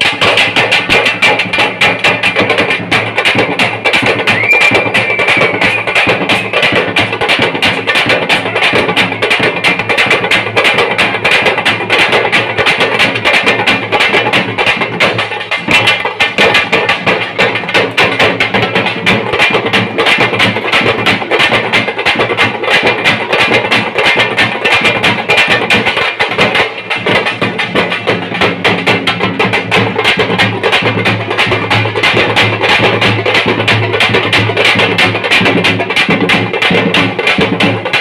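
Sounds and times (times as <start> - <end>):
frame drums beaten with sticks: 0.0 - 38.0.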